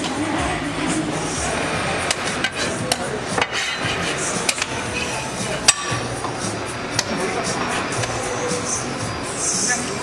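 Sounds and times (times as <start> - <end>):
background music: 0.0 - 10.0
murmur of voices: 0.0 - 10.0.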